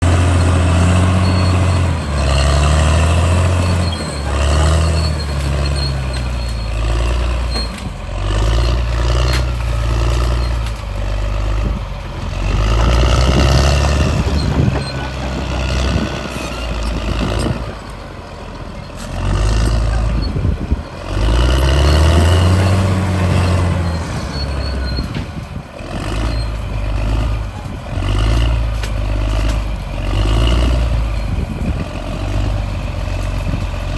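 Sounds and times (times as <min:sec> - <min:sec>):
bulldozer diesel engine under load: 0:00.0 - 0:33.9.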